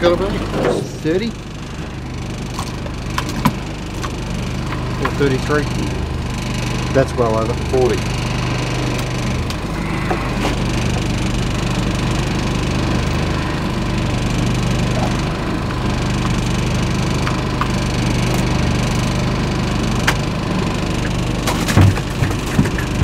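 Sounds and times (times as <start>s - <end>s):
outboard motor idling: 0.0s - 23.0s.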